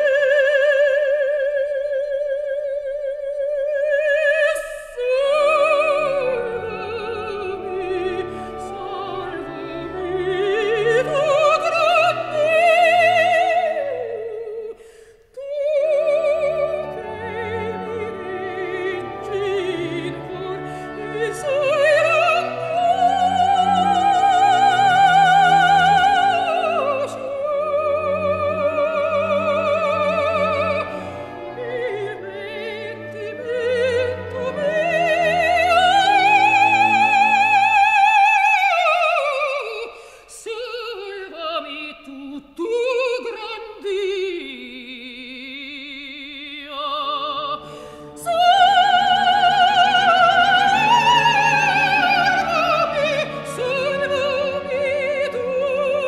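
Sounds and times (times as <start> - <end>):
operatic soprano singing: 0.0 - 56.0
orchestral accompaniment: 3.6 - 39.9, 42.6 - 56.0.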